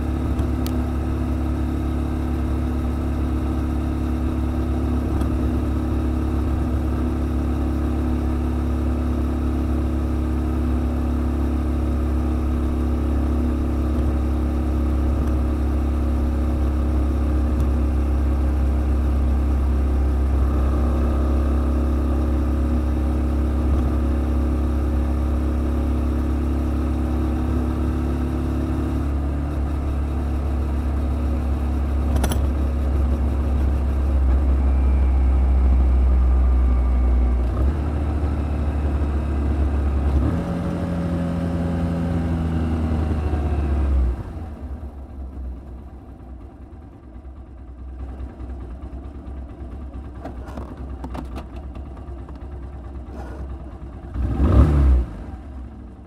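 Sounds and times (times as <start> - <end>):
wind and road noise: 0.0 - 45.5
motorcycle engine running: 0.0 - 56.0.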